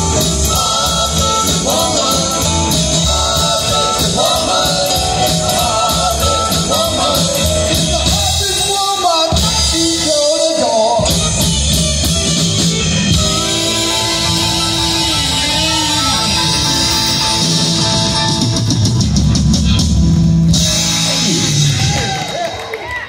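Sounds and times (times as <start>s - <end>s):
amplified harmonica lead: 0.0s - 22.2s
blues-rock band playing: 0.0s - 22.8s.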